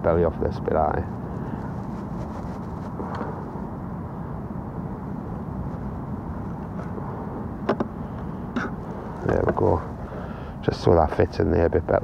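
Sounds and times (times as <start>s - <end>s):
low rumbling outdoor noise: 0.0s - 12.0s.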